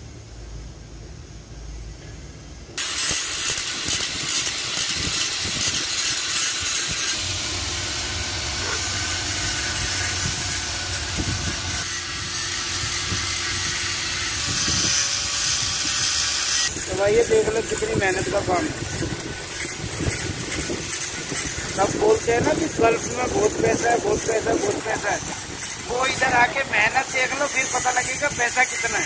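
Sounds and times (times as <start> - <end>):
angle grinder grinding concrete: 2.8 - 29.0.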